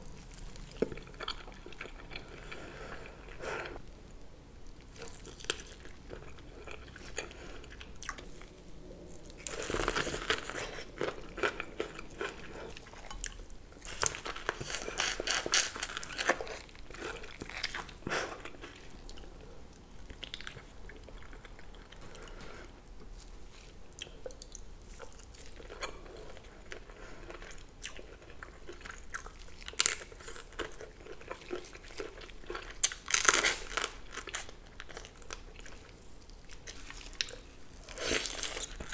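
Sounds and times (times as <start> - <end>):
person chewing: 0.0 - 3.8, 4.8 - 38.9.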